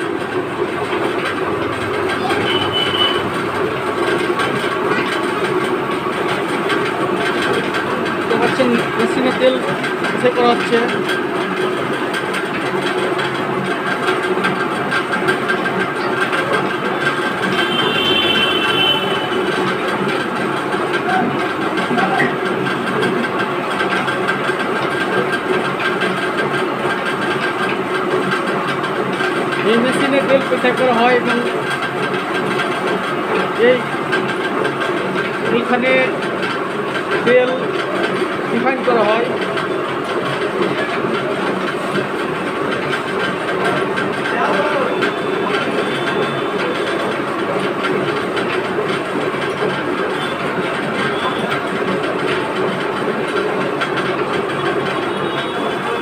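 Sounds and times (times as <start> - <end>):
oil expeller clattering: 0.0 - 56.0.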